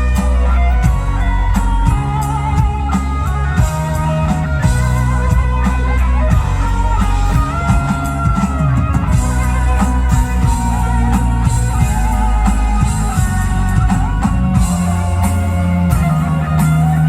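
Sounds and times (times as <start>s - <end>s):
lead guitar bending notes: 0.0s - 17.0s
rock band playing: 0.0s - 17.0s.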